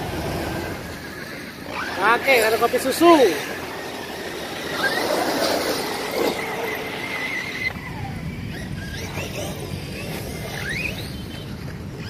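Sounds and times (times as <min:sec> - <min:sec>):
toy truck motor whining: 0:00.2 - 0:12.0.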